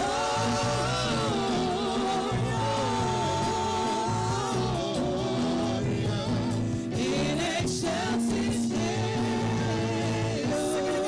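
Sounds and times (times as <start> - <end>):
instrumental backing: 0.0 - 11.0
women's vocal group singing: 0.0 - 11.0.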